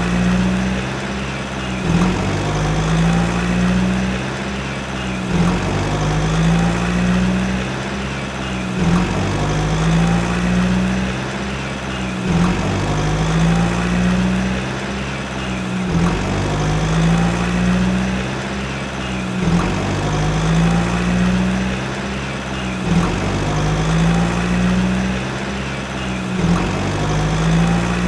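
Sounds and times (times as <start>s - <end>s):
toy truck engine sound effect: 0.0s - 28.0s.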